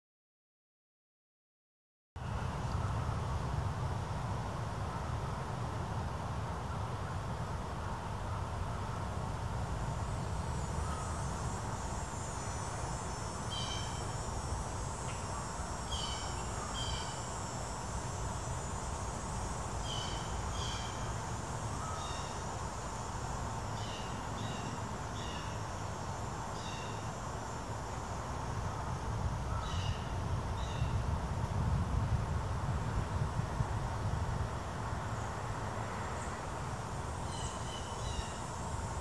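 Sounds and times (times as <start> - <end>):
high insect drone: 6.6 - 39.0.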